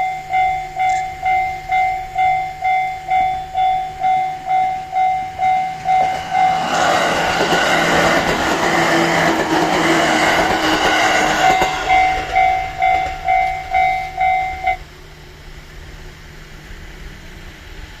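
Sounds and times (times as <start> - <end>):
level-crossing warning bell: 0.0 - 14.9
train passing rumble: 0.0 - 18.0.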